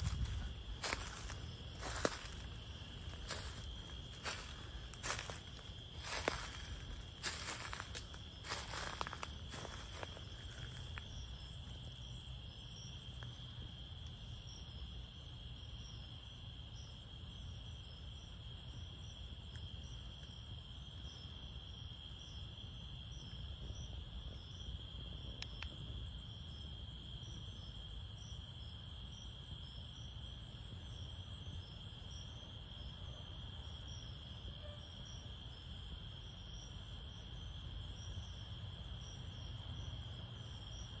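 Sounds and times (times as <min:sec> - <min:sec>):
insect trill: 0:00.0 - 0:41.0.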